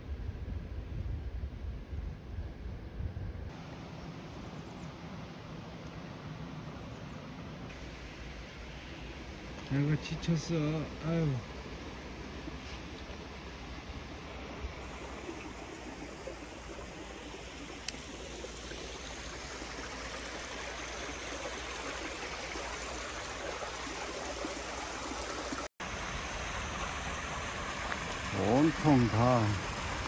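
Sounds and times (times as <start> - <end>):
stream water rushing and trickling: 3.5 - 30.0.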